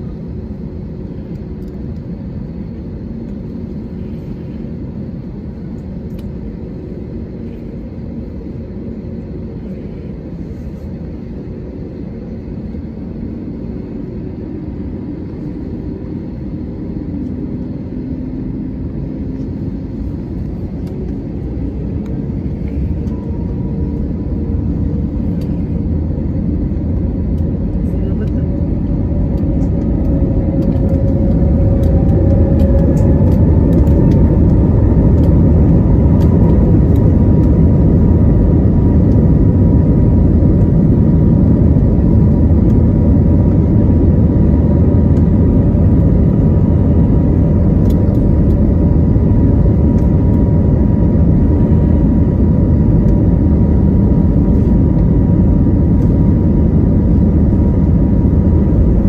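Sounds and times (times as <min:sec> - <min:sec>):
engine and runway rumble: 0:00.0 - 0:59.0
jet engine whine rising: 0:00.0 - 0:59.0.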